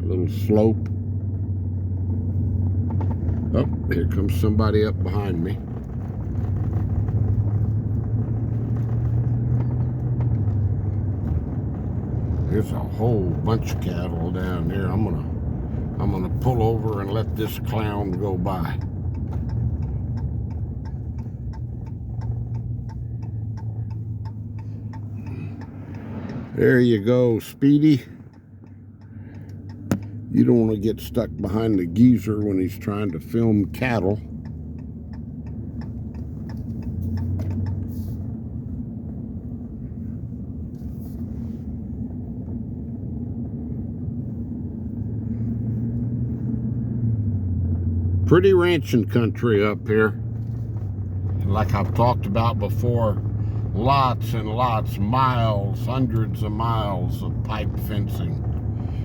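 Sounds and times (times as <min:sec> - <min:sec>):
engine humming: 0:00.0 - 0:59.0
turn signal clicking: 0:00.8 - 0:59.0.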